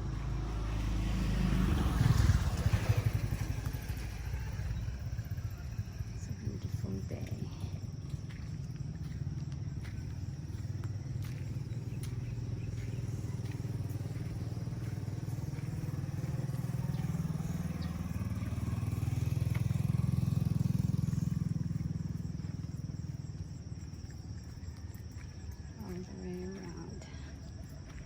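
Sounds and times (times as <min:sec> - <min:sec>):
motorcycle engine passing by: 0:00.0 - 0:28.0.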